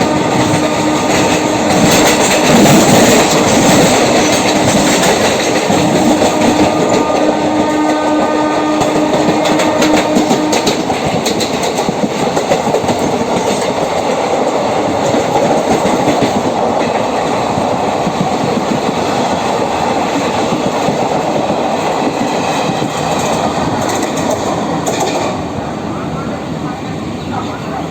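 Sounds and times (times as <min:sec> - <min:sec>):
wheels clacking over rail joints: 0:00.0 - 0:25.4
train rumbling on rails: 0:00.0 - 0:27.9.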